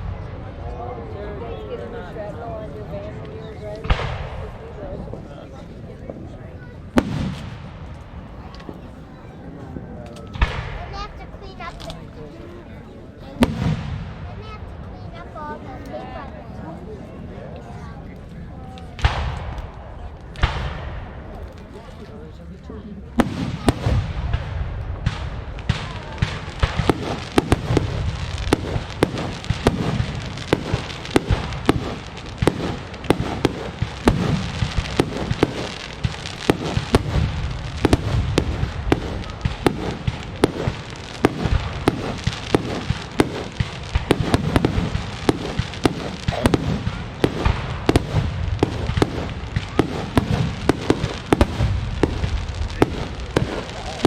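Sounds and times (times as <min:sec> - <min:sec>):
fireworks bursting and crackling: 0:00.0 - 0:16.9, 0:17.5 - 0:54.0.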